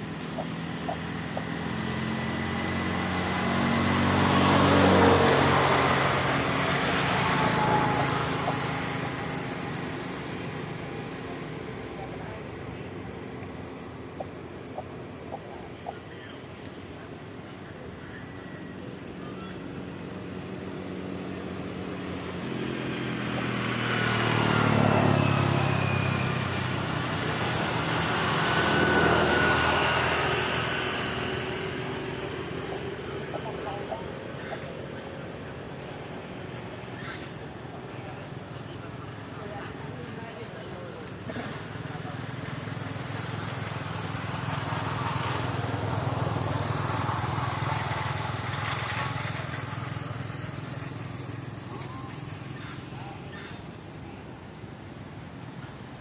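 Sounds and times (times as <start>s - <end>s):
motor vehicle passing by: 0.0s - 56.0s.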